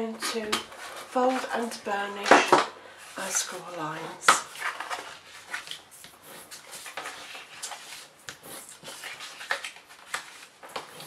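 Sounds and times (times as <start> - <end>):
cardstock rustling and scraping: 0.2 - 11.0.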